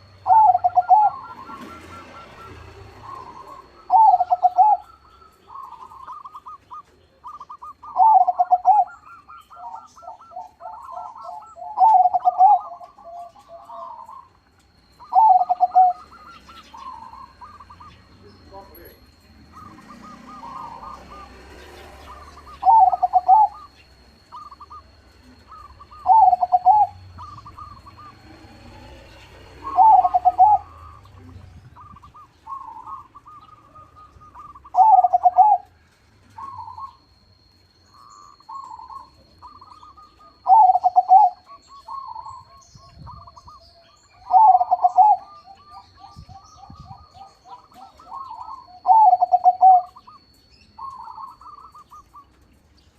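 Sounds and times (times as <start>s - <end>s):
dove rolling coo: 0.0s - 18.1s, 19.1s - 37.2s, 38.0s - 50.2s
soft trilled cooing: 0.0s - 52.3s.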